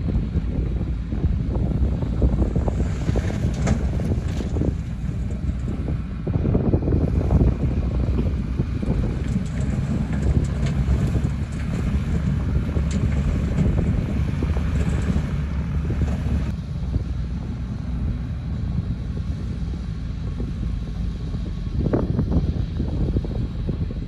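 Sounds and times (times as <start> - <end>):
diesel engine rumbling: 0.0 - 24.0
wind noise on microphone: 0.0 - 24.0.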